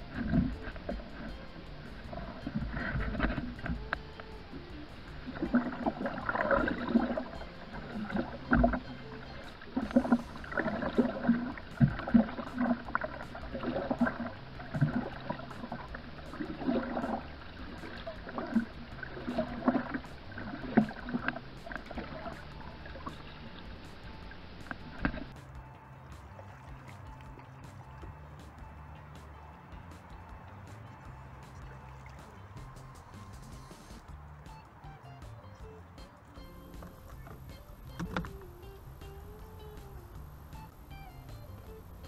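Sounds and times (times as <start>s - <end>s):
paddle splashing in water: 0.0s - 34.8s, 36.2s - 42.0s.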